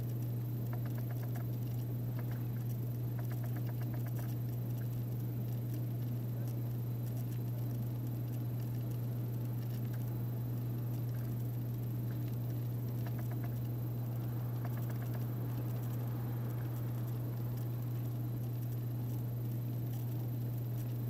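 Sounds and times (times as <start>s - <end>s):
steady low hum: 0.0s - 21.0s
rapid ticking or chirping: 0.2s - 6.2s, 7.0s - 21.0s.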